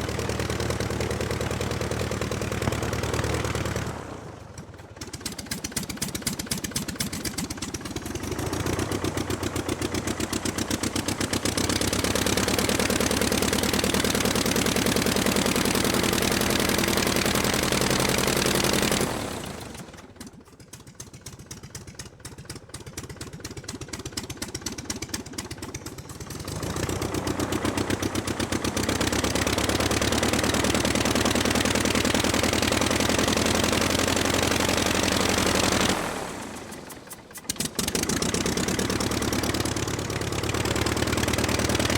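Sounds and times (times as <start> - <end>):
aircraft piston engine revving: 0.0 - 41.9.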